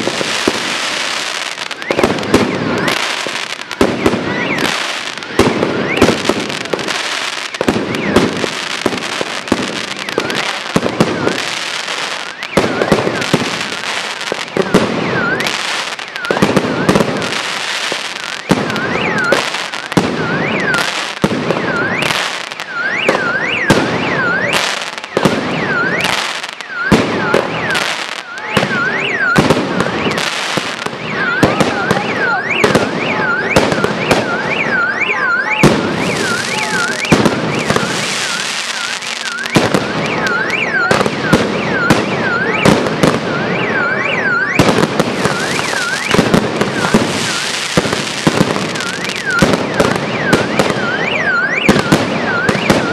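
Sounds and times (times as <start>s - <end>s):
fireworks bangs and crackling: 0.0s - 52.9s.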